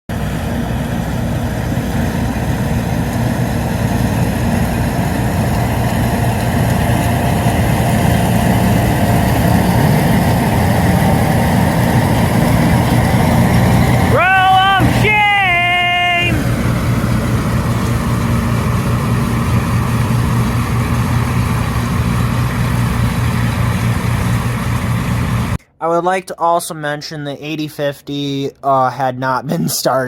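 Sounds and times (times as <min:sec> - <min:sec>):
tractor diesel engine running: 0:00.1 - 0:25.6.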